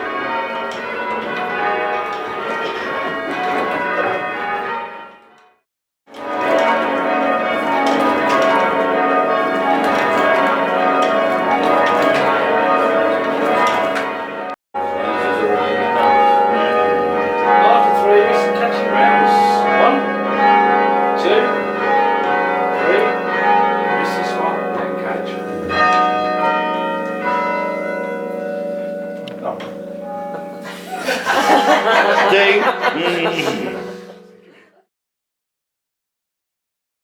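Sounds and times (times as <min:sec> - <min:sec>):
church bells ringing: 0:00.0 - 0:05.5, 0:06.1 - 0:34.6.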